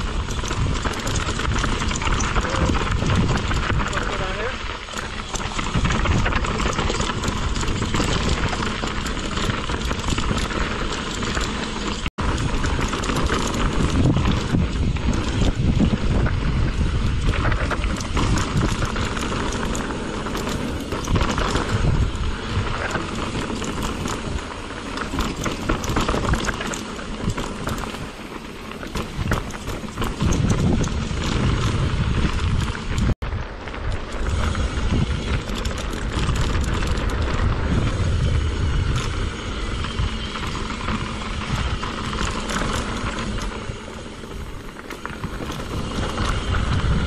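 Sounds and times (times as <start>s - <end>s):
bike rattling and clattering: 0.0s - 47.0s
tyres rolling over dirt and rocks: 0.0s - 47.0s.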